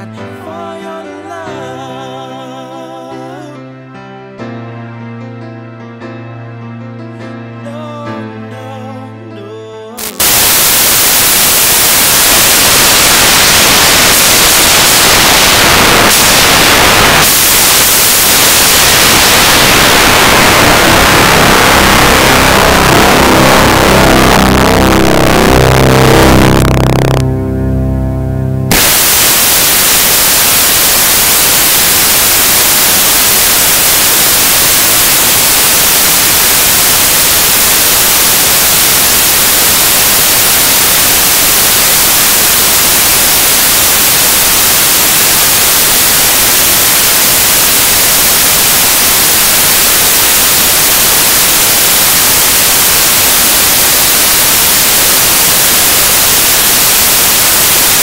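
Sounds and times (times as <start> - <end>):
static hiss: 10.0 - 27.9, 28.6 - 58.0.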